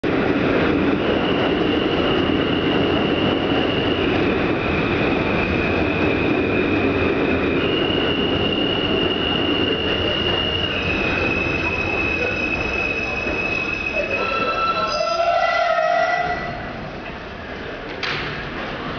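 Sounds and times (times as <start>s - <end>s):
subway train rumbling: 0.0s - 18.9s.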